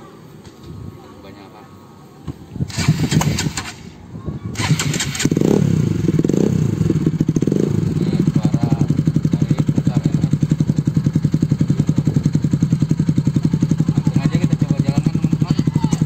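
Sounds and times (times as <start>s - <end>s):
motorcycle engine idling: 2.7s - 16.0s.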